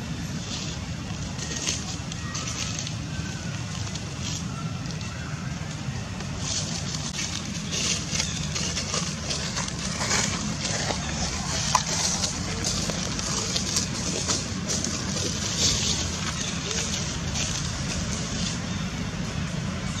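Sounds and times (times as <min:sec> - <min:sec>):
crackling and rustling: 0:00.2 - 0:18.9.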